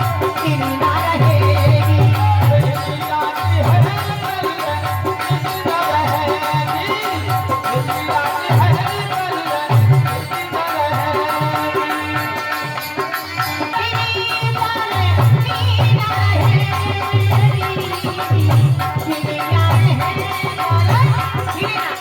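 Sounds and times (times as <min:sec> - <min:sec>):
hand drum beating rhythm: 0:00.0 - 0:22.0.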